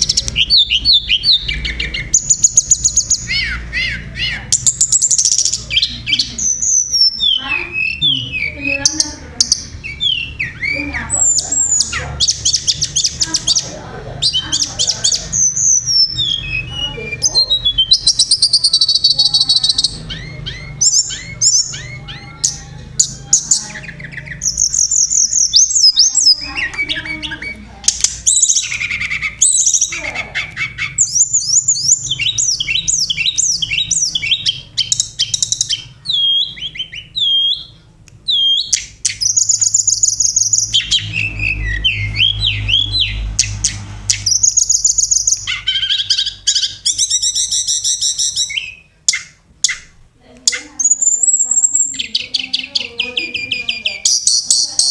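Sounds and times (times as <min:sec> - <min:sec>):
bird whistles and chirps: 0:00.0 - 0:13.6, 0:14.2 - 0:49.9, 0:50.5 - 0:54.9.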